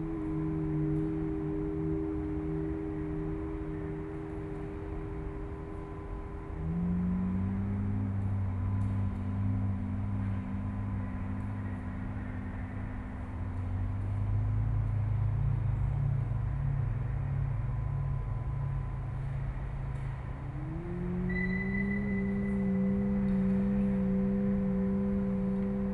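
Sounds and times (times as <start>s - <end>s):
higher steady tone: 0.0s - 14.8s, 15.8s - 25.9s
low droning rumble: 0.0s - 25.9s.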